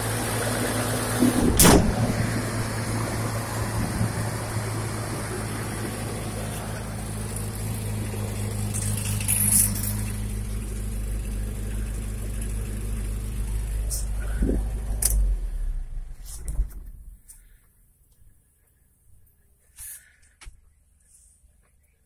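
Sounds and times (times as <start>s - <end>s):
truck engine idling: 0.0s - 17.6s.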